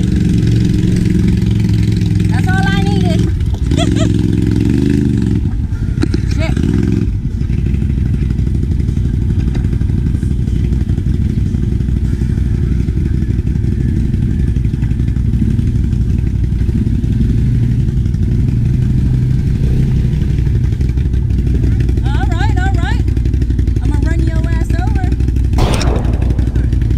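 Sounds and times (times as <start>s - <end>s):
atv engine droning: 0.0s - 25.5s.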